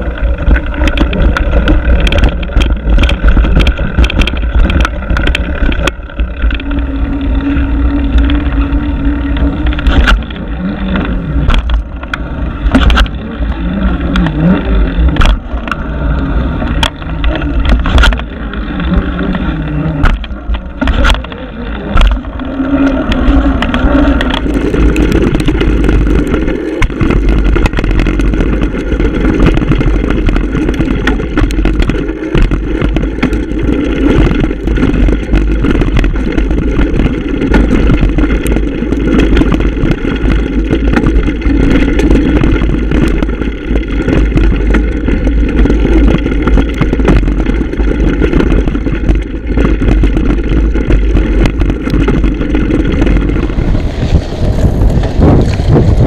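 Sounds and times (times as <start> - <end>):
bike clicks and rattles: 0.0 - 56.0
wind rumble on microphone: 0.0 - 56.0.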